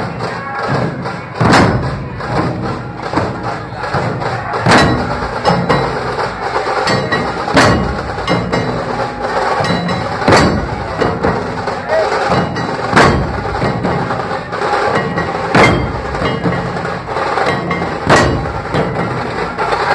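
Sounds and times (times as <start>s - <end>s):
barrel drums beating fast rhythm: 0.0s - 19.9s.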